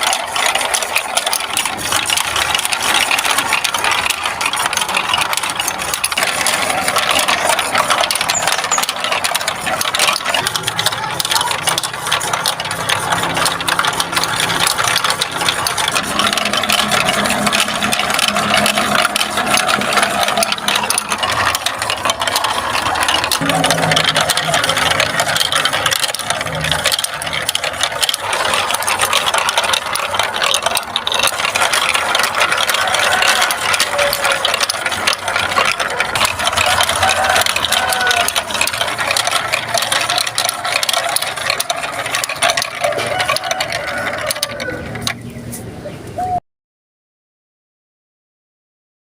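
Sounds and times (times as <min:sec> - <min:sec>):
marbles rattling on plastic track: 0:00.0 - 0:46.4.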